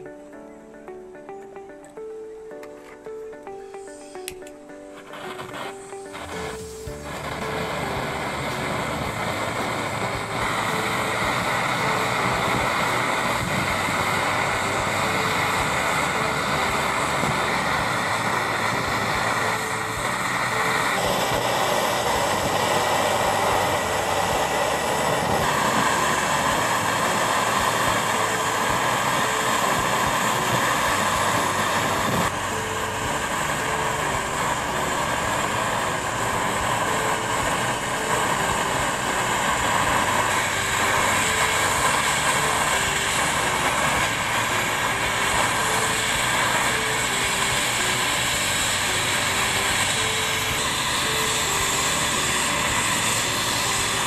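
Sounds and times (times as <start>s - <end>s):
torch hissing: 3.9s - 54.0s.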